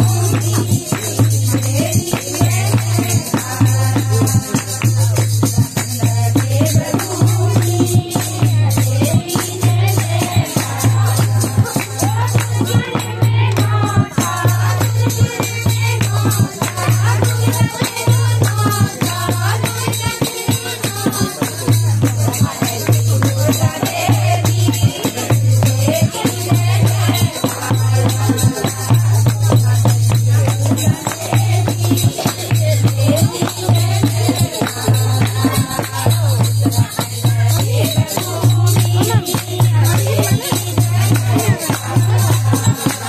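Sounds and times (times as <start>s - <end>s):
hand clapping: 0.0s - 43.0s
hand drum beat: 0.0s - 43.0s
rattling hand percussion: 0.0s - 43.0s
women singing in unison: 0.0s - 43.0s.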